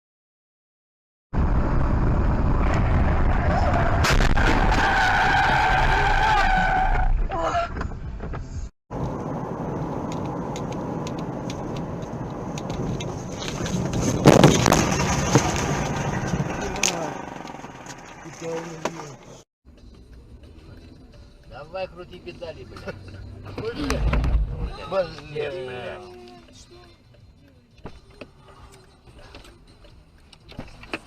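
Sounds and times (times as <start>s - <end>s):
car road noise: 1.4s - 31.0s.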